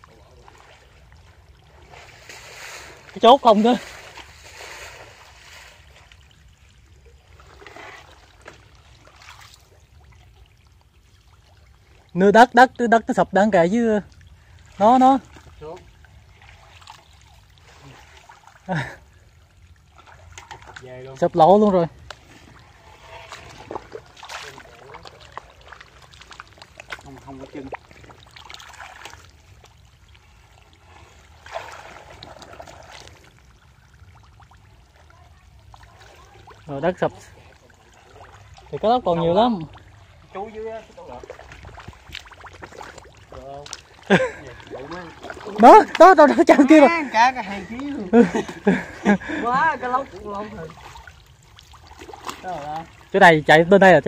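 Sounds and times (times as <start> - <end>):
splashing of pond water: 0.0 - 12.3, 14.0 - 54.0
low pump hum: 0.0 - 54.0.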